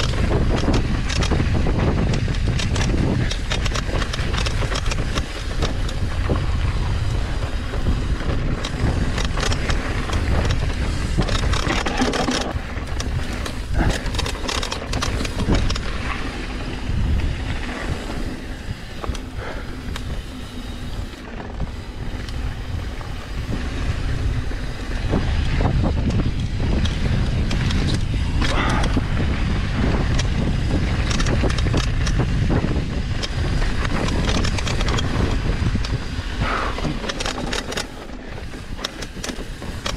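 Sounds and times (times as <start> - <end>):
bike clattering over bumps: 0.0 - 39.9
wind buffeting microphone: 0.0 - 39.9.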